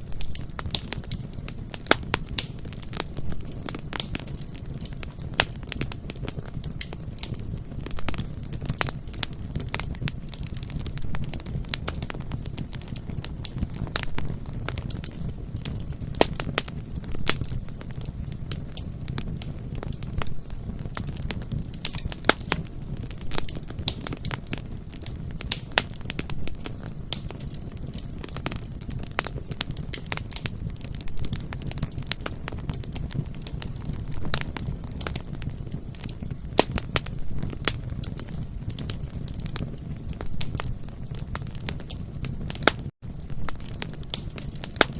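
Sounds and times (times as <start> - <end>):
low rumble of flames: 0.0 - 44.9
wood crackling and popping: 0.0 - 44.9.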